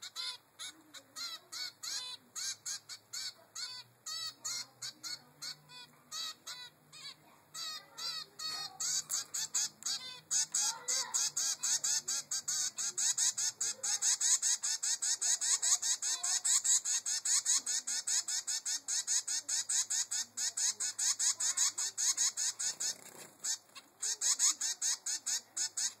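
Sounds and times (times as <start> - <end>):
finch chick begging calls: 0.0 - 26.0.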